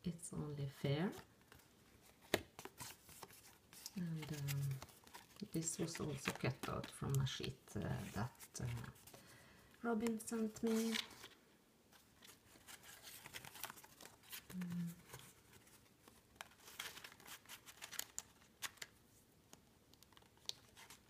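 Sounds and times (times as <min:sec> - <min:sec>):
paper pages rustling: 0:01.1 - 0:09.2, 0:10.0 - 0:21.0.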